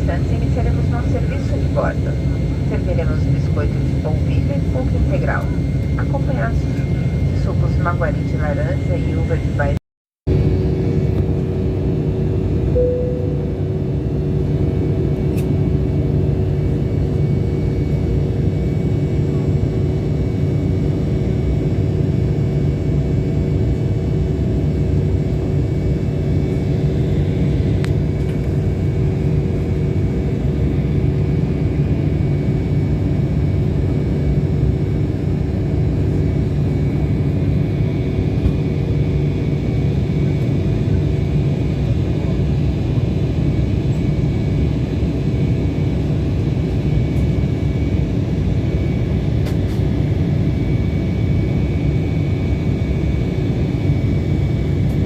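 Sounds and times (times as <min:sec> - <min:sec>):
constant humming tones: 0:00.0 - 0:55.0
jet engine and airflow rumble: 0:00.0 - 0:55.0.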